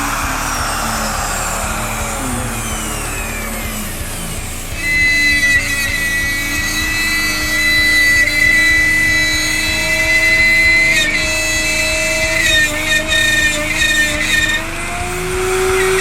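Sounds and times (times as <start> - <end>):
power tool motor whine: 0.0 - 16.0.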